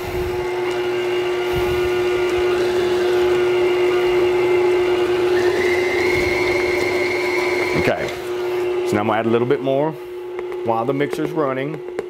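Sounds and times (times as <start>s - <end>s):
higher steady whine: 0.0s - 12.0s
stand mixer motor whine: 0.0s - 12.0s.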